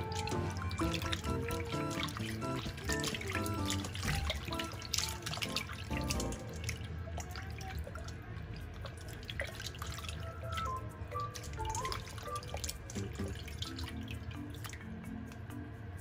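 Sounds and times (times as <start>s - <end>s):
light background music: 0.0s - 7.1s, 8.4s - 16.0s
water splashing in a steel bowl: 0.0s - 15.4s.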